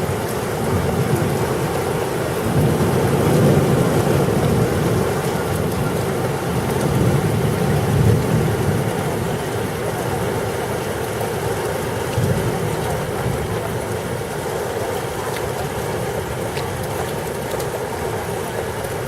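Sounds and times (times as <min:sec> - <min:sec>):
steady pouring rain: 0:00.0 - 0:19.0.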